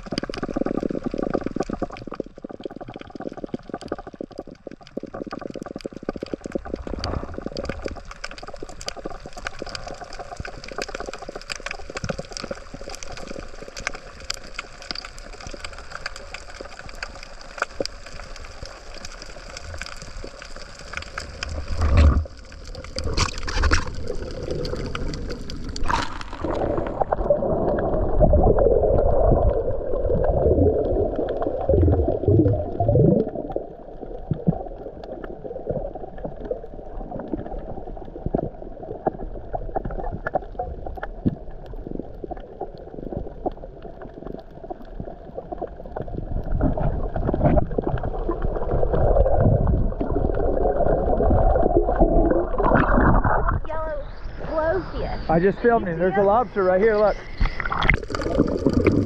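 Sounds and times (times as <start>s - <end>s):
water bubbling underwater: 0.0s - 59.0s.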